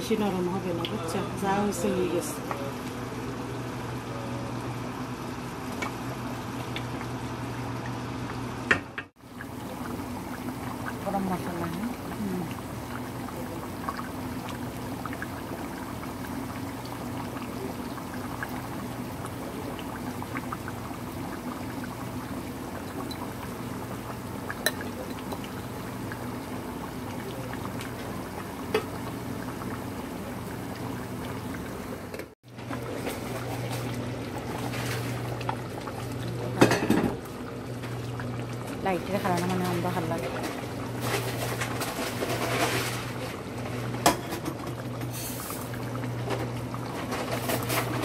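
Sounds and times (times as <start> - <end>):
curry bubbling in a pan: 9.1 - 48.0.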